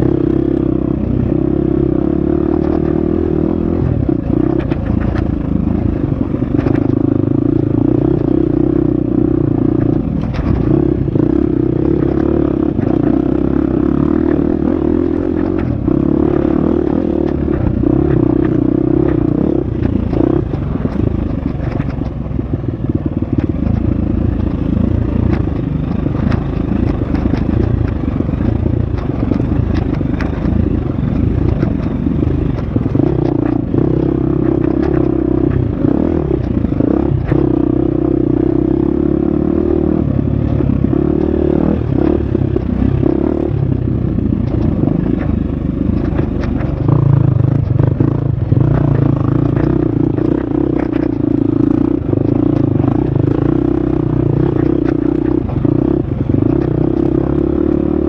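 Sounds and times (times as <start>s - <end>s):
dirt bike engine running hard: 0.0s - 58.0s.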